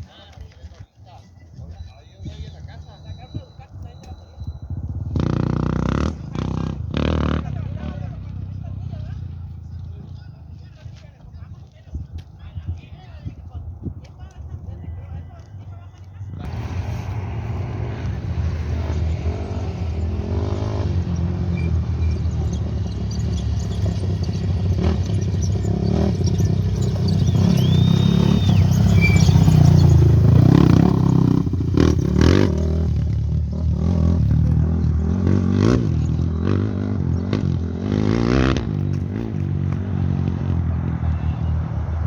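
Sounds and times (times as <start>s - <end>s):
motorcycle passing by: 2.8s - 11.6s, 16.3s - 42.0s.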